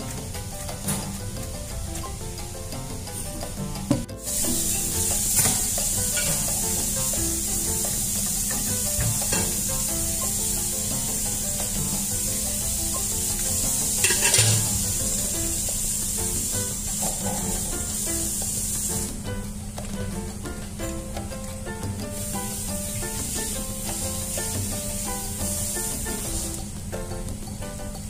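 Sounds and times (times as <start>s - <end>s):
melodic background music: 0.0s - 28.0s
steady high hiss: 0.0s - 28.0s.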